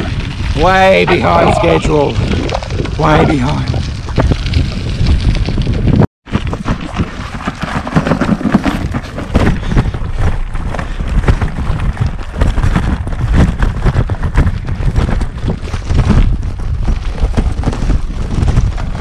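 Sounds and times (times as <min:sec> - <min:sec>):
wind buffeting microphone: 0:00.0 - 0:07.5, 0:08.7 - 0:19.0
bike rattling over rocks: 0:00.0 - 0:19.0
bike tyres crunching over stones: 0:00.0 - 0:19.0.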